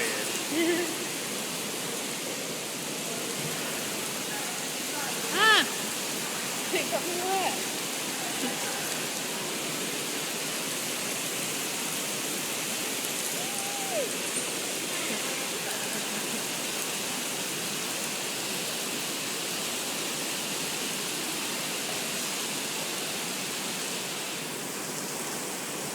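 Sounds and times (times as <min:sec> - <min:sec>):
artificial rain hissing on floor: 0:00.0 - 0:25.9.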